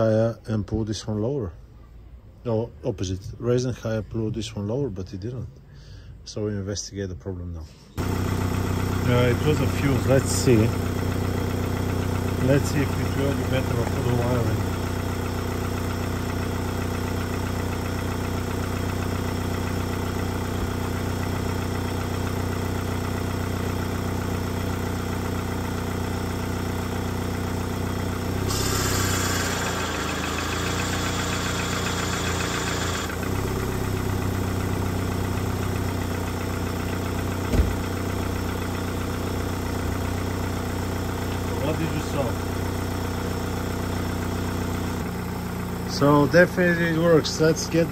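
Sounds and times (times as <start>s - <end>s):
car engine idling: 8.0s - 47.9s.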